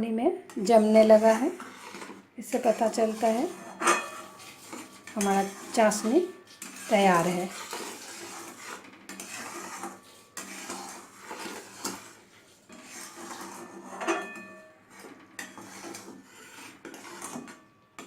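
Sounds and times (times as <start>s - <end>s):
metal spoon scraping a pot: 0.5s - 18.0s.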